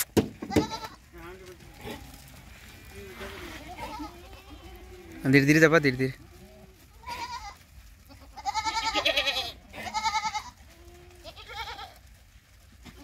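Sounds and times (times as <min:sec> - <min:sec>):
goats bleating: 0:00.4 - 0:13.0.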